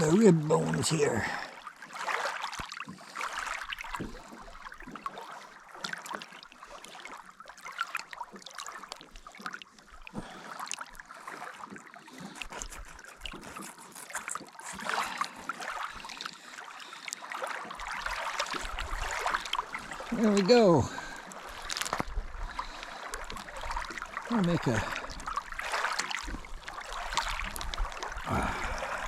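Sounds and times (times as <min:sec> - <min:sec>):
faint moving water: 0:00.0 - 0:29.0.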